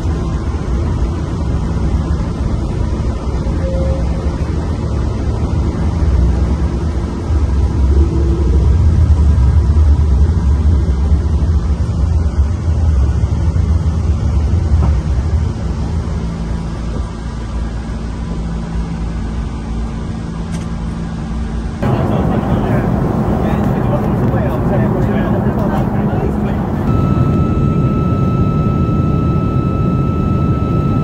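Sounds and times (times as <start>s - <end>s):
aircraft airflow and engine rumble: 0.0s - 31.0s.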